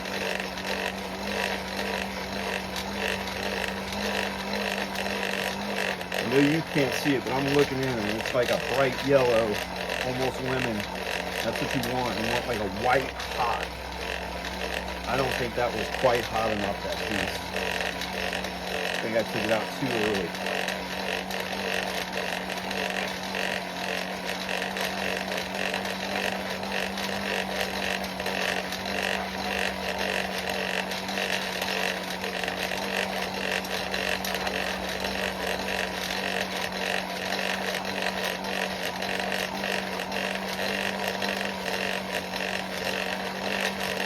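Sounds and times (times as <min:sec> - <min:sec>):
forge blower humming: 0:00.0 - 0:44.0.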